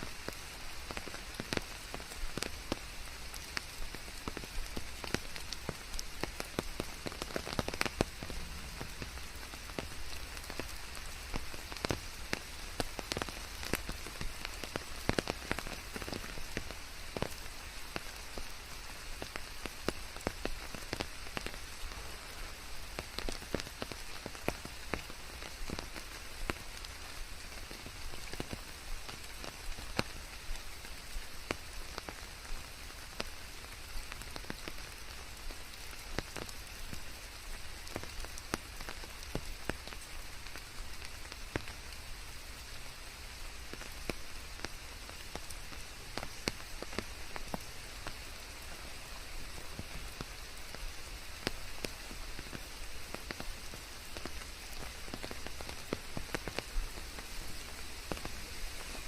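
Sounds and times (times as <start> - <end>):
raindrop hits: 0.0 - 41.9, 43.3 - 59.0
steady rain hiss: 0.0 - 59.0.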